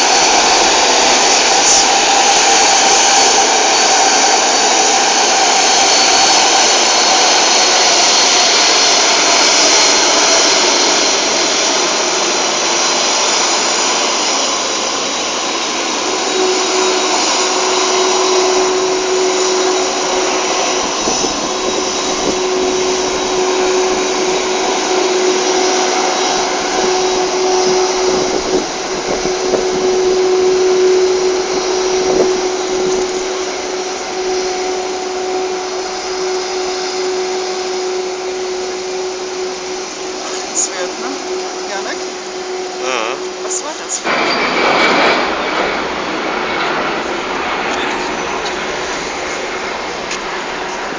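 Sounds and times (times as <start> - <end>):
jet engines roaring and whining: 0.0 - 50.9.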